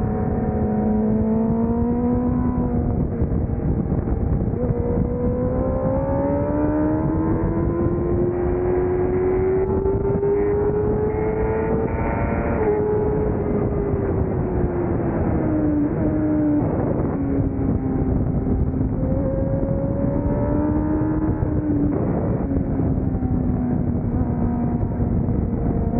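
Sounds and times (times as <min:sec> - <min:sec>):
racing motorcycle engine revving: 0:00.0 - 0:25.9
wind rush: 0:00.0 - 0:25.9.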